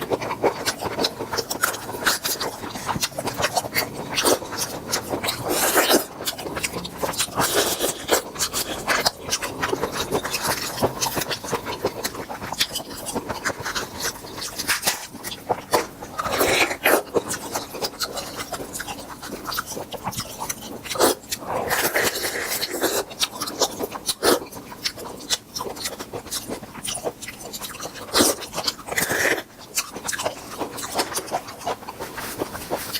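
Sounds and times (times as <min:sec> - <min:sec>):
close-miked eating crackles: 0:00.0 - 0:32.9.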